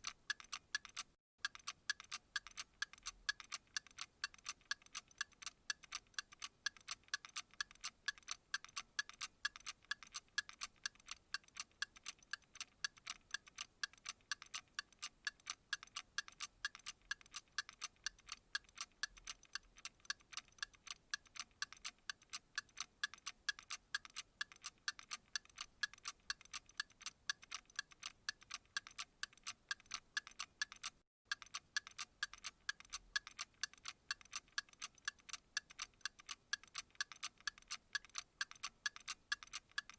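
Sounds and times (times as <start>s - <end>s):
steady ticking: 0.0s - 39.9s.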